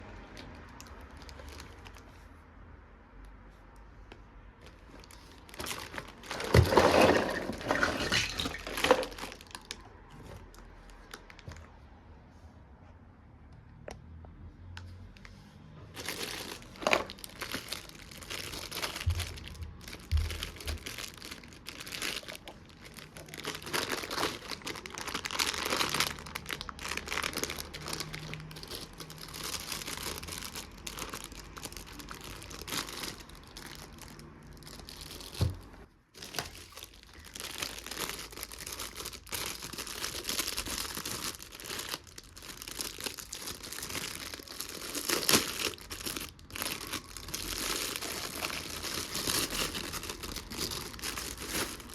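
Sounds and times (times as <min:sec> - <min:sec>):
crinkling and rustling: 0:00.2 - 0:02.4, 0:03.5 - 0:11.9, 0:15.0 - 0:51.9.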